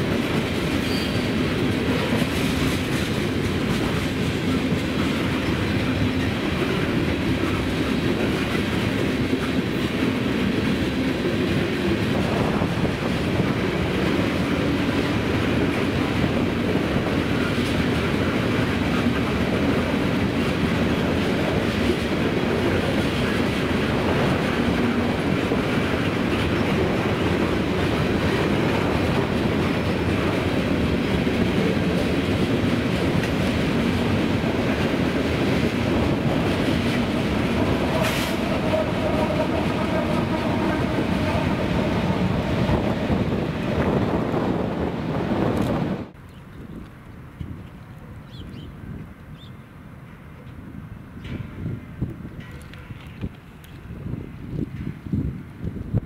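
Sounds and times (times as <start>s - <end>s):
clickety-clack over rail joints: 0.0s - 49.4s, 50.2s - 56.0s
diesel locomotive hum: 0.0s - 56.0s
train wheels rumbling on rail: 0.0s - 56.0s.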